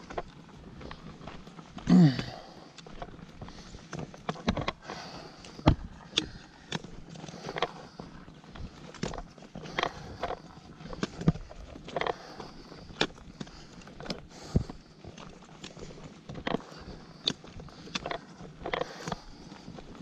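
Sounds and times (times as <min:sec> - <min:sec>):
footsteps crunching on dirt trail: 0:00.0 - 0:20.0
trekking pole tips clicking: 0:00.0 - 0:20.0.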